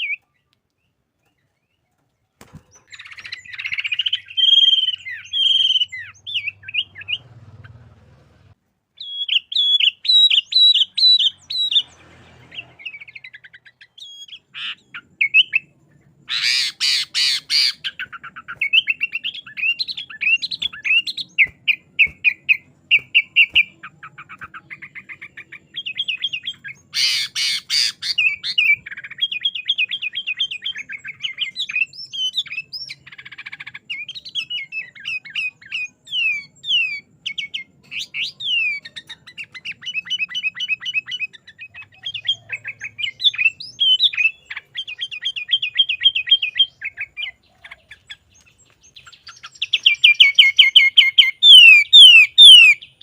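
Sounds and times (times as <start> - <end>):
bird singing trills and whistles: 0.0 - 7.6, 9.0 - 53.0
harsh buzzy bird call: 2.8 - 48.2, 49.1 - 53.0.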